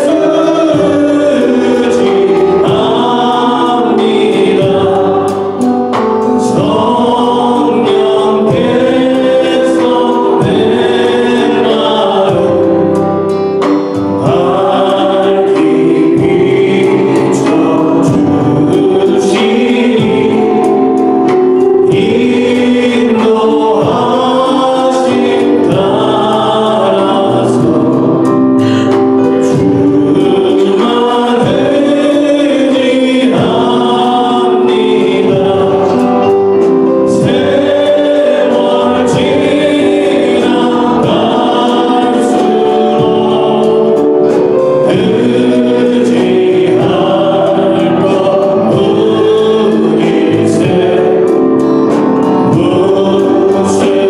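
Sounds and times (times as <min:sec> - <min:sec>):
acoustic guitar: 0:00.0 - 0:54.0
backing singers: 0:00.0 - 0:54.0
drums: 0:00.0 - 0:54.0
man singing lead: 0:00.0 - 0:54.0.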